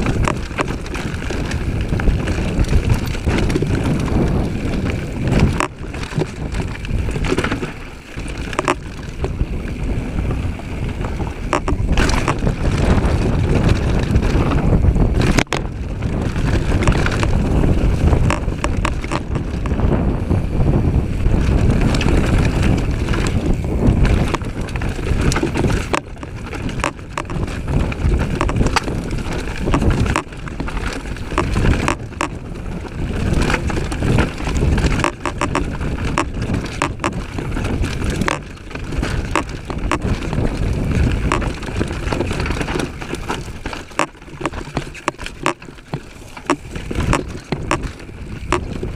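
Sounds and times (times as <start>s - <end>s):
bike knocking and rattling: 0.0s - 48.9s
tyres rumbling on dirt: 0.0s - 48.9s
wind noise on microphone: 0.0s - 48.9s.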